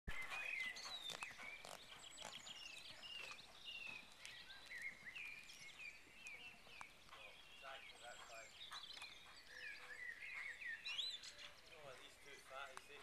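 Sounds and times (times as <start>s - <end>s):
birds chirping and whistling: 0.1s - 13.0s.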